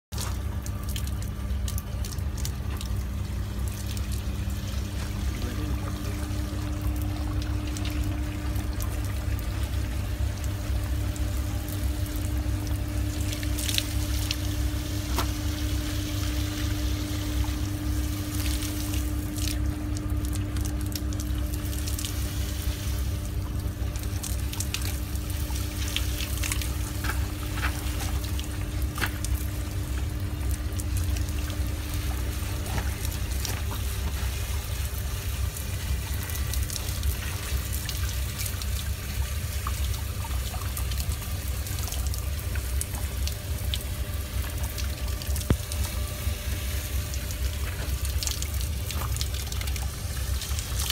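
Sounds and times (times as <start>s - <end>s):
hose water splashing on coil: 0.1s - 50.9s
steady hum: 0.1s - 50.9s
water dripping: 0.2s - 46.2s, 46.8s - 50.9s.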